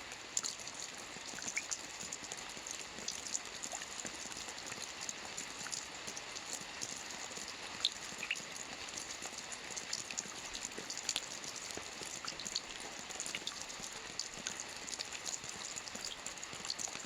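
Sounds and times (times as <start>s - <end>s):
gentle rain hiss: 0.0s - 17.0s
raindrops ticking on a surface: 0.0s - 17.0s.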